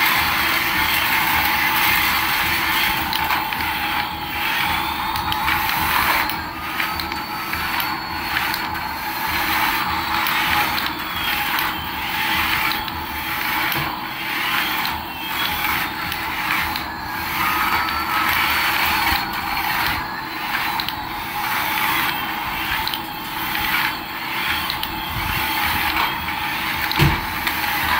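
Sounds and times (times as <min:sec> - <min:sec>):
toy motor and gears whirring: 0:00.0 - 0:27.9.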